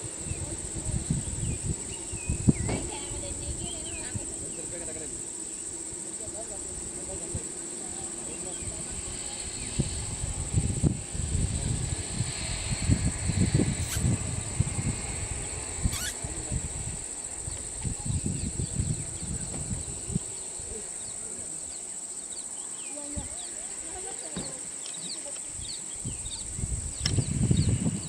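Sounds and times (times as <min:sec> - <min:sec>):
wind rumbling on microphone: 0:00.0 - 0:21.9, 0:22.7 - 0:28.0
high-pitched insect drone: 0:00.0 - 0:28.0.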